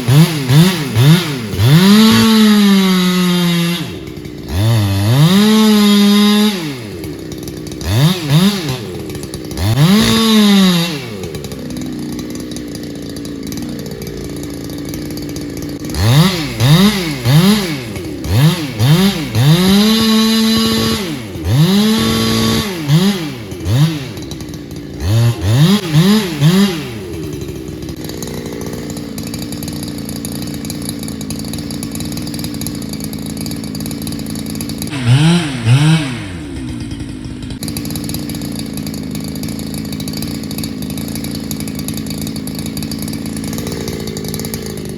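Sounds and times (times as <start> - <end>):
chainsaw engine revving and idling: 0.0 - 44.9.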